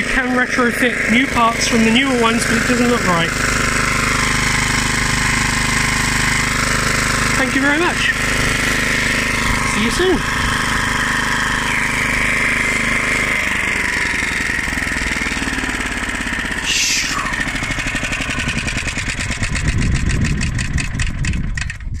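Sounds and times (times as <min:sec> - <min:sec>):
petrol mower engine running: 0:00.0 - 0:22.0.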